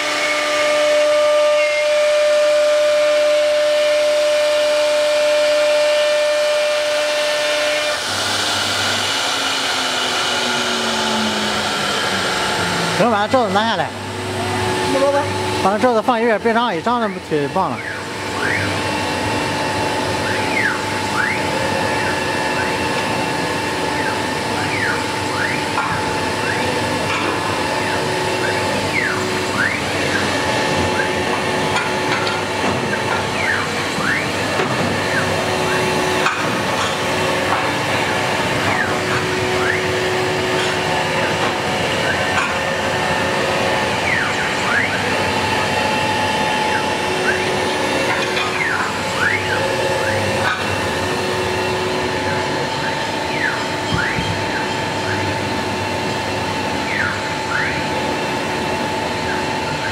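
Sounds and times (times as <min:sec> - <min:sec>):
axis drive whines: 0:00.0 - 0:59.9
machine hum: 0:00.0 - 0:59.9
router spindle whine: 0:00.0 - 0:59.9.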